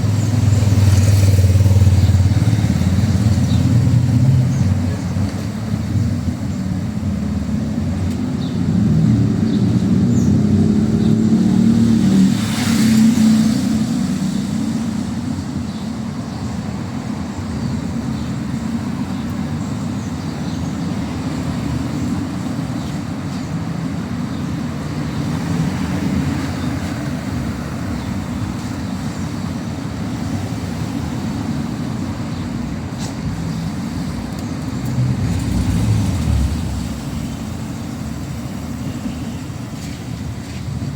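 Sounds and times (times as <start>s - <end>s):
cars passing: 0.0s - 40.9s.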